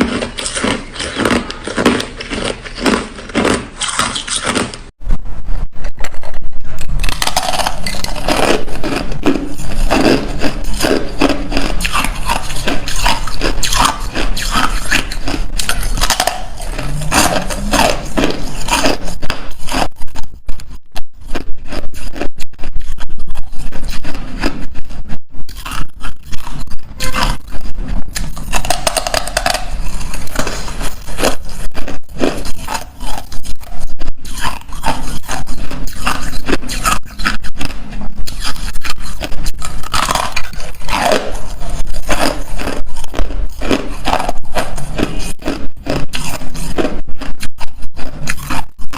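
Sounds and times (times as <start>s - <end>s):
ice crunching while chewed: 0.0s - 4.9s, 6.1s - 48.9s.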